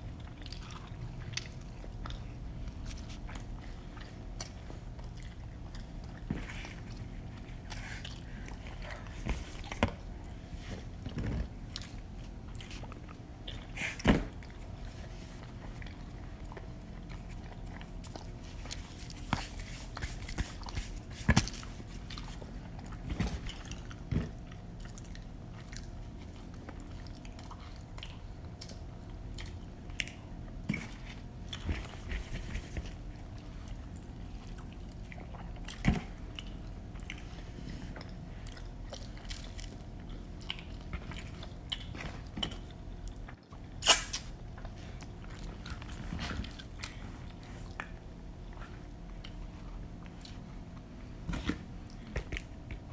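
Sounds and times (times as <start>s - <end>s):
people chewing pizza: 0.0s - 52.9s.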